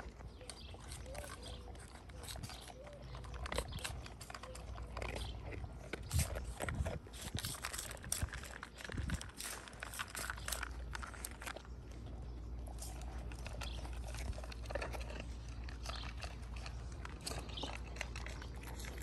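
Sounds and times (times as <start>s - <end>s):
puppy crunching kibble: 0.0s - 19.0s.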